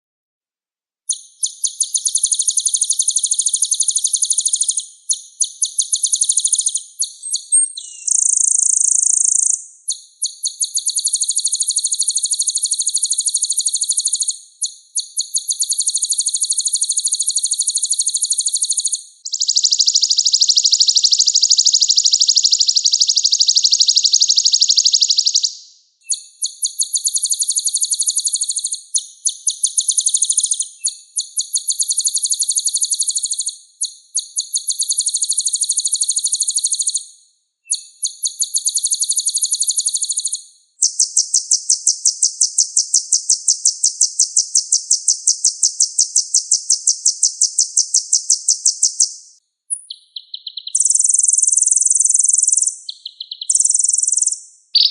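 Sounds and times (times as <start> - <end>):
bird singing rapid high trills: 1.1 - 54.9.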